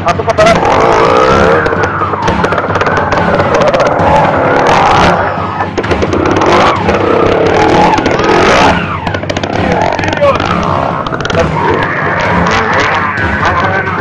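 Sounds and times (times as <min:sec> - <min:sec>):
motorcycle engine revving: 0:00.0 - 0:14.0
sharp clicks and clatter: 0:00.0 - 0:14.0.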